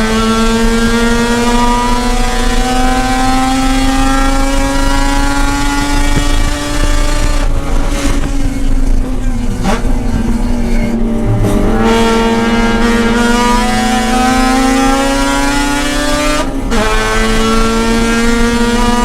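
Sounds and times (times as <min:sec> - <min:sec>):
rotary engine at high revs: 0:00.0 - 0:19.0.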